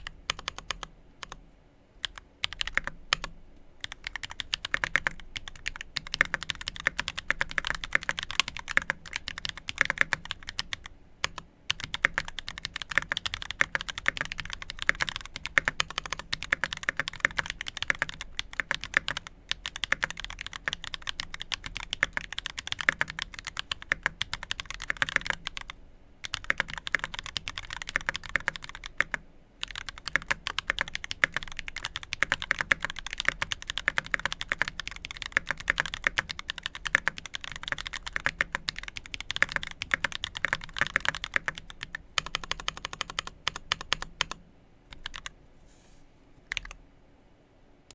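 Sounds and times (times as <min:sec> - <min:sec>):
fast mechanical keyboard typing: 0:00.0 - 0:01.4, 0:02.0 - 0:45.3, 0:46.5 - 0:46.8.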